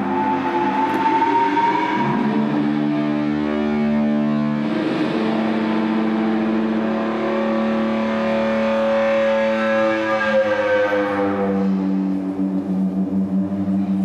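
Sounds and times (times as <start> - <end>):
droning electronic music: 0.0 - 14.0
high sustained tone: 0.0 - 14.0.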